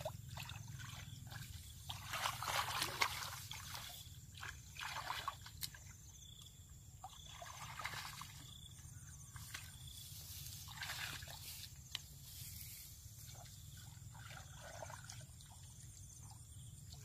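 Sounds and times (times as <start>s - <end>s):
faint water trickle: 0.0s - 17.0s
water sloshing and splashing: 0.0s - 17.0s.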